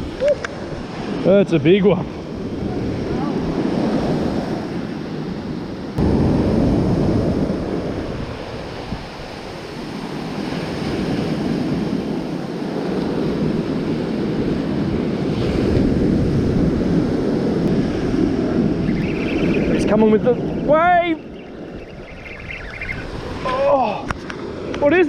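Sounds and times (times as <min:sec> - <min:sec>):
ocean surf on beach: 0:00.0 - 0:25.0
wind buffeting microphone: 0:00.0 - 0:25.0.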